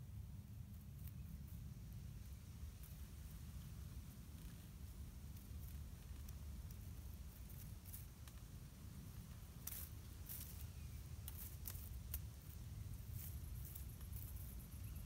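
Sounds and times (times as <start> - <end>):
rodent rustling in dry leaves: 0.4 - 15.0.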